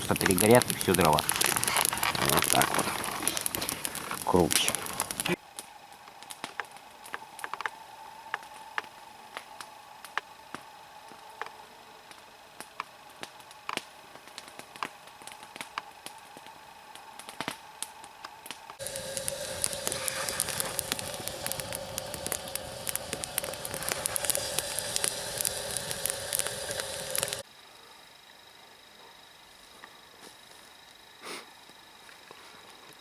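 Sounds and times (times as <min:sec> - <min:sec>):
campfire crackling: 0:00.0 - 0:27.5
steady hissing tone: 0:00.0 - 0:33.0.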